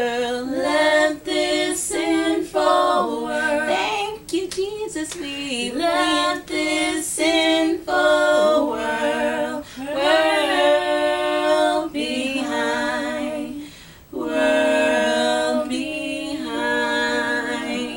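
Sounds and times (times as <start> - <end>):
unaccompanied gospel singing: 0.0 - 17.9.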